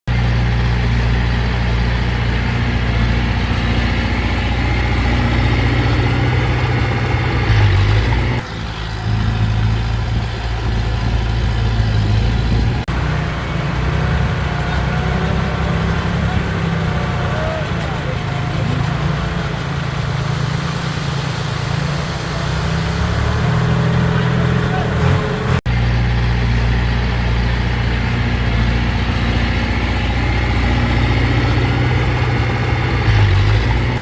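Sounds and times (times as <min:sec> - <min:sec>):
heavy machinery diesel engines: 0:00.1 - 0:34.0.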